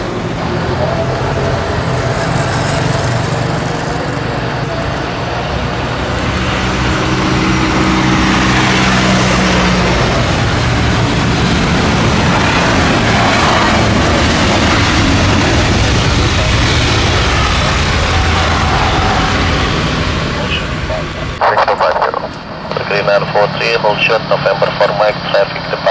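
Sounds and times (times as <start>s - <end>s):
jet engines at takeoff: 0.0s - 25.9s
low engine tones: 0.0s - 25.9s.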